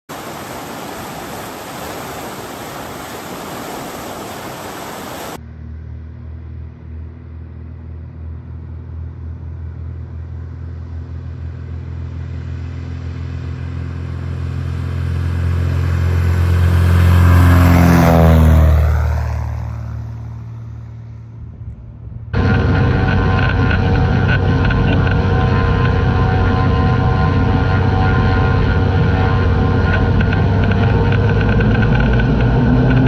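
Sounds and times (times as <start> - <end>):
propeller plane engine: 0.1 - 33.0.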